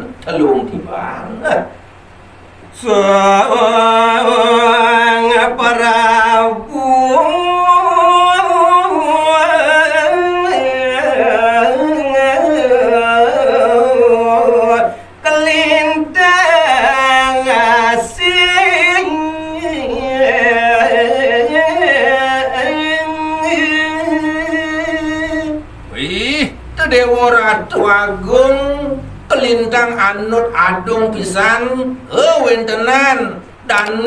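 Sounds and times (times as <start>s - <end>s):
man singing into a microphone: 2.7s - 34.0s.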